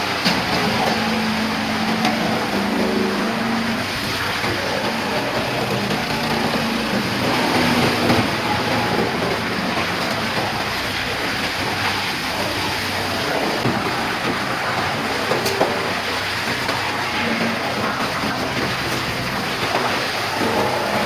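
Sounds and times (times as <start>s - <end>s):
wood chipper running: 0.0s - 21.0s.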